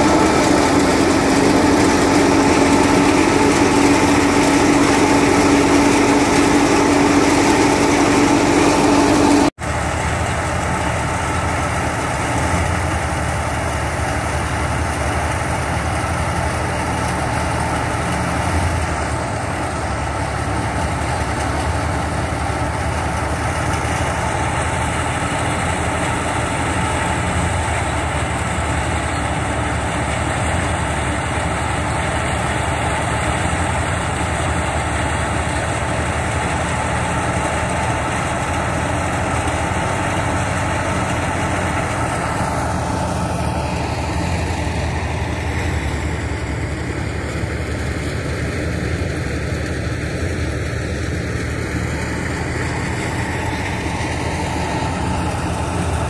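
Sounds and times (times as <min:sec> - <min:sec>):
tractor-powered thresher running: 0:00.0 - 0:56.0.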